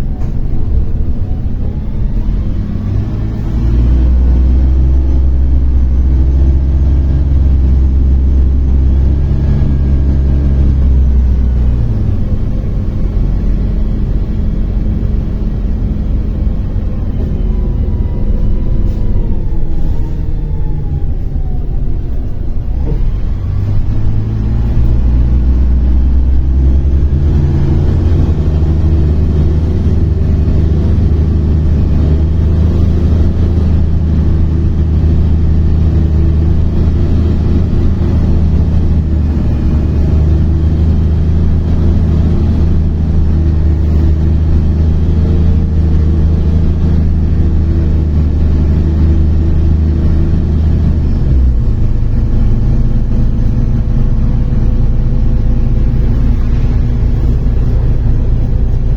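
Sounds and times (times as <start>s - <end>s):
bus diesel engine humming: 0.0s - 58.9s
road noise: 0.0s - 58.9s.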